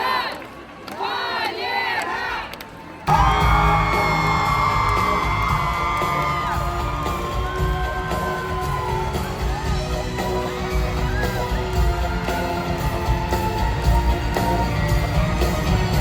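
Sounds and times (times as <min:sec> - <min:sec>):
audience whooping and shrieking: 0:03.0 - 0:16.0
live band music: 0:03.1 - 0:16.0.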